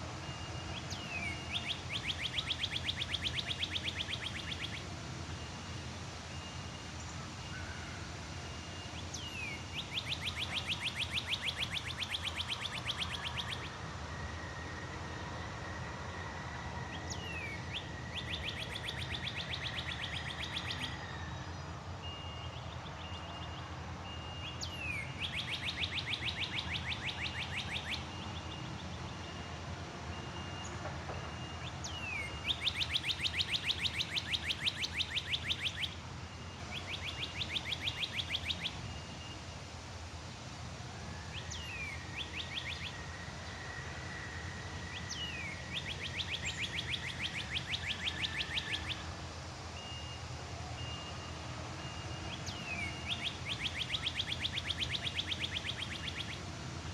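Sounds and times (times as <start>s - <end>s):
songbird trilling song: 0.2s - 5.7s, 6.3s - 14.4s, 16.9s - 29.5s, 30.1s - 39.5s, 41.3s - 49.2s, 49.8s - 50.2s, 50.8s - 56.9s.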